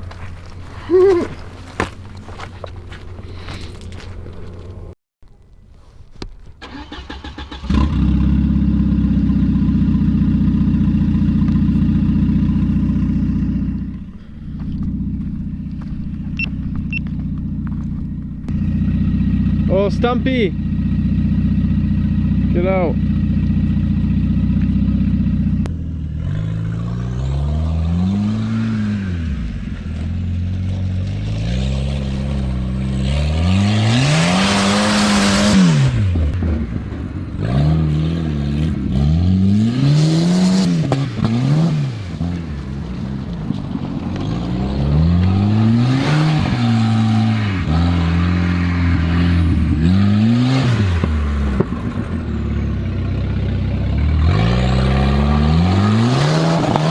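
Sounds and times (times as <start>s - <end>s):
car engine revving: 6.7s - 56.9s.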